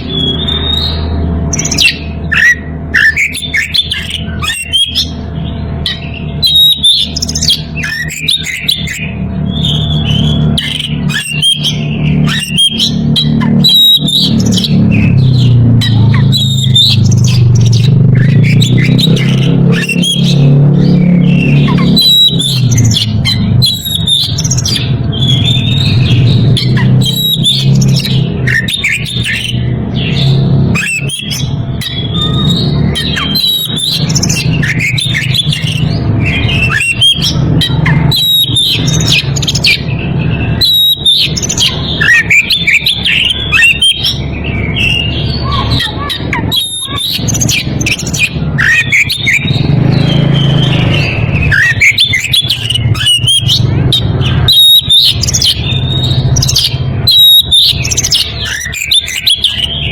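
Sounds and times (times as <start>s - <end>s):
bird singing whistles and chatter: 0.0s - 59.9s
steady low hum: 0.0s - 59.9s.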